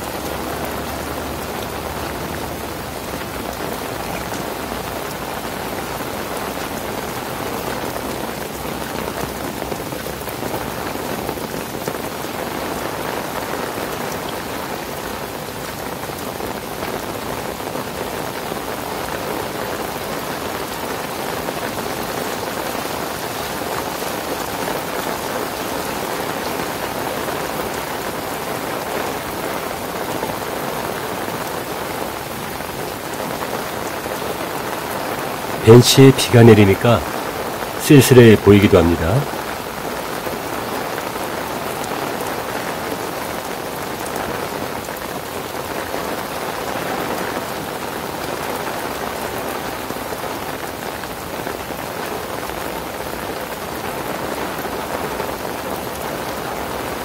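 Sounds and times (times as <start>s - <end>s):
heavy rain on pavement: 0.0s - 57.0s.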